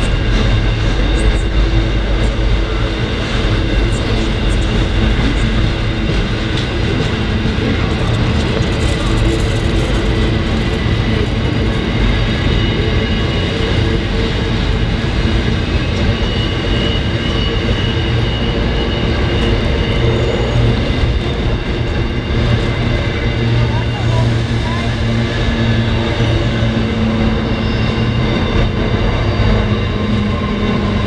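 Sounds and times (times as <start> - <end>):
freight train wagons rumbling: 0.0 - 31.0.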